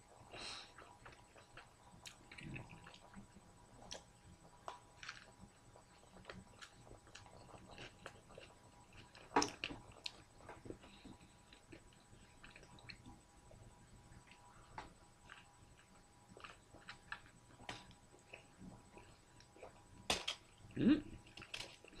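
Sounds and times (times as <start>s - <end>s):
person chewing food: 0.1s - 20.6s.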